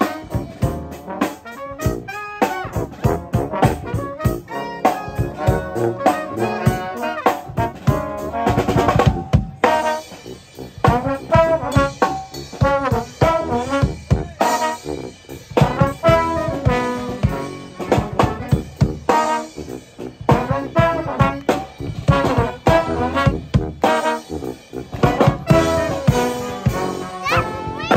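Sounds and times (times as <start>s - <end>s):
brass band playing dixieland music: 0.0s - 27.9s
marching bass drum beat: 0.0s - 27.9s
trombones: 0.0s - 27.9s.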